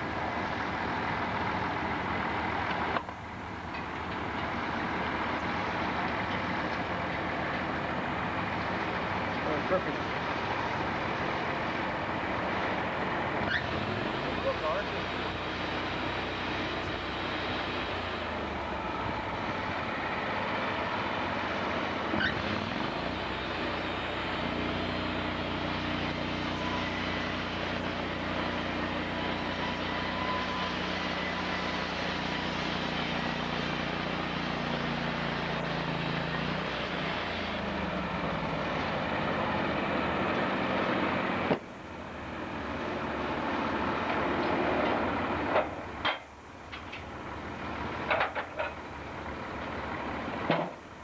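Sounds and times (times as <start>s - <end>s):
sawmill engine running: 0.0s - 51.0s.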